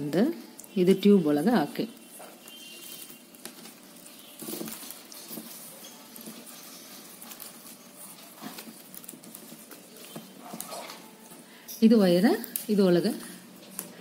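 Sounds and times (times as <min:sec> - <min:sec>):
plastic wire rustling and clicking: 0:01.6 - 0:14.0.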